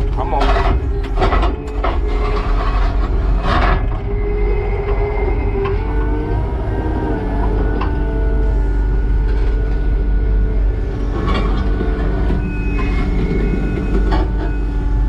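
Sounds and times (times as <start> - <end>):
diesel engine working hard: 0.0 - 15.0
hydraulics whining: 0.0 - 15.0.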